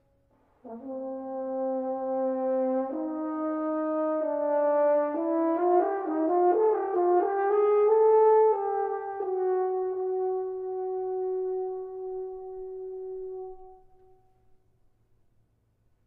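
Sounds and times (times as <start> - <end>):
french horn playing: 0.6 - 14.6.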